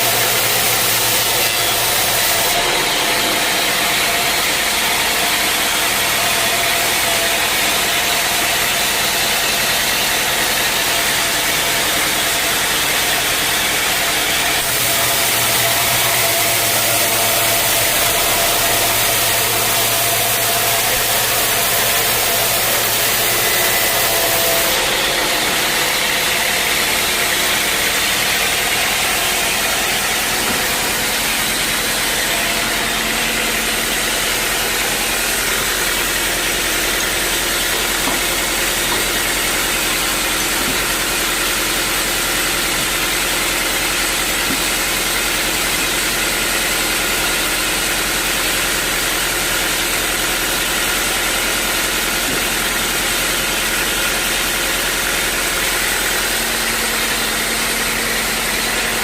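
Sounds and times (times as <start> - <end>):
loud sawmill machinery: 0.0 - 59.0.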